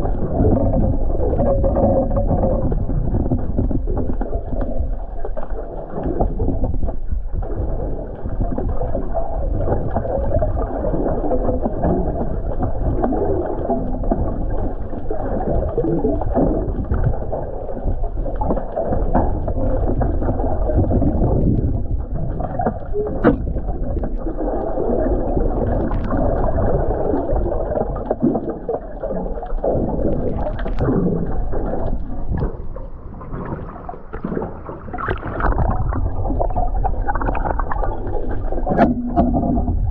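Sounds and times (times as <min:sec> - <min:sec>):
boat knocks and splashes: 0:00.0 - 0:39.9
rush of wind and water: 0:00.0 - 0:39.9.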